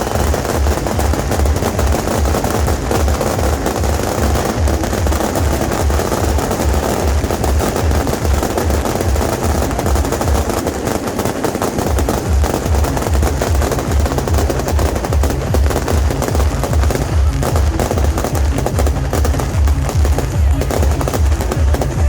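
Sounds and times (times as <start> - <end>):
music with bass beat: 0.0 - 22.0
rockets and firecrackers crackling: 0.0 - 22.0.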